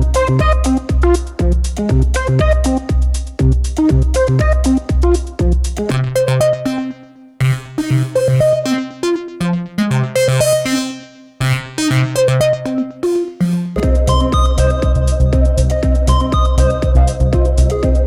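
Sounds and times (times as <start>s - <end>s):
synthesizer melodic phrase: 0.0s - 2.9s, 6.0s - 18.0s
pulsing synth bass line: 0.0s - 18.0s.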